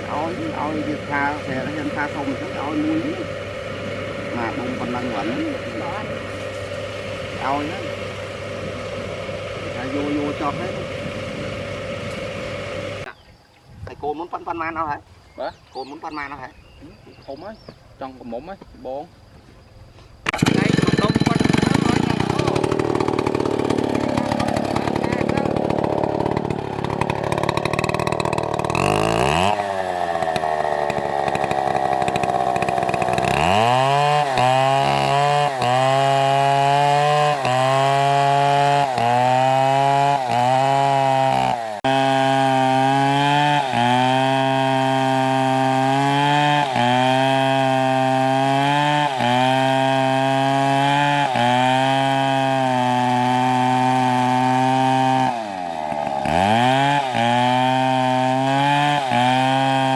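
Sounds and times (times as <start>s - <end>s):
chainsaw cutting wood: 0.0s - 13.1s, 20.2s - 59.9s.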